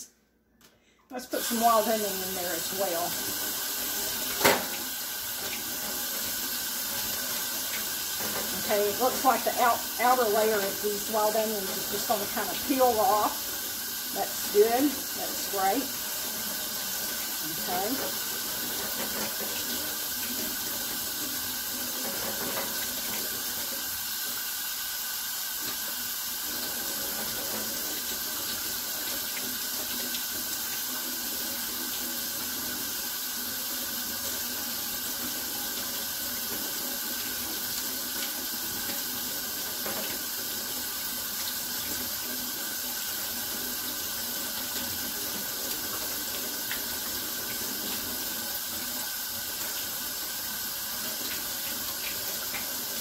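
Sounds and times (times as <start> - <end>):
faucet running into sink: 1.2 - 53.0.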